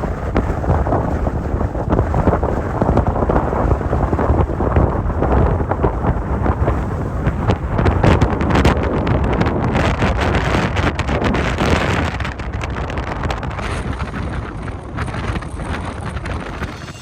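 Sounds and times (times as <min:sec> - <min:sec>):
wind gusting against microphone: 0:00.0 - 0:17.0.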